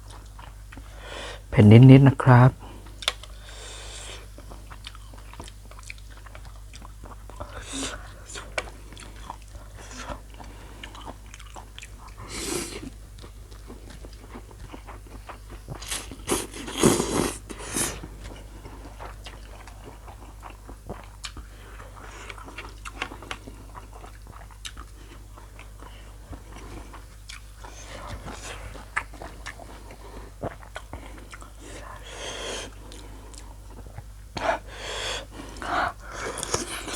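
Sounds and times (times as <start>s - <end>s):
chewing: 0.0s - 1.0s, 2.8s - 36.9s.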